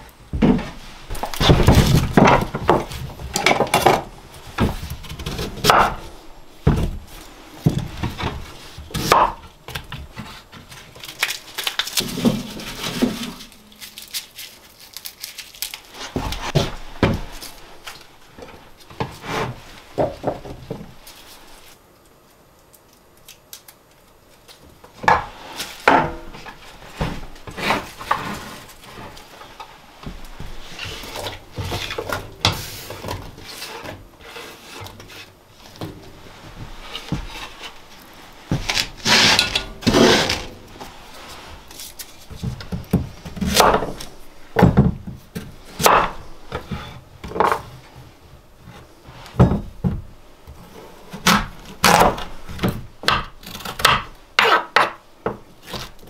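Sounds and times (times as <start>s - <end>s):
wooden pieces knocking and scraping: 0.3s - 21.6s, 24.4s - 48.1s.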